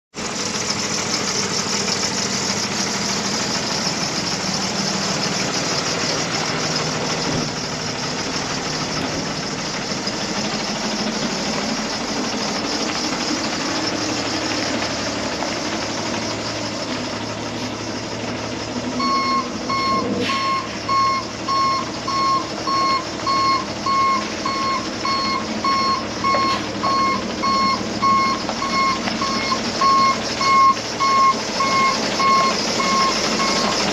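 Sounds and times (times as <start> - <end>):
diesel engine running: 0.1 - 33.9
reversing alarm beeping: 3.3 - 33.9.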